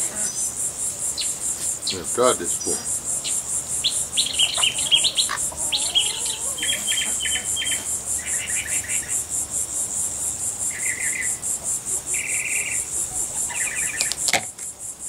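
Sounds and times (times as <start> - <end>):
bird chirps and trills: 0.0 - 9.3, 10.7 - 11.4, 12.0 - 14.3
insect chirping trill: 0.0 - 15.0.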